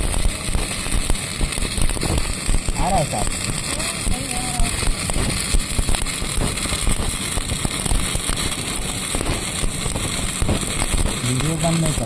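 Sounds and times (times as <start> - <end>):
welding arc crackling: 0.0 - 12.0.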